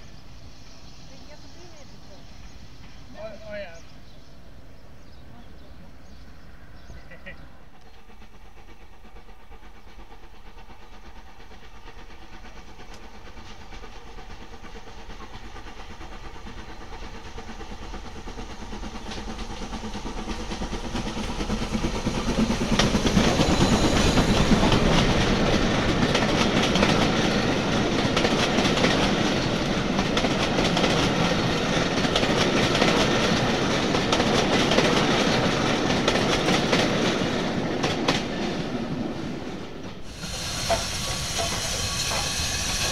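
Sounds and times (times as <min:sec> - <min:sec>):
steam locomotive passing: 0:00.0 - 0:42.9
train wheels clickety-clack: 0:07.0 - 0:42.9.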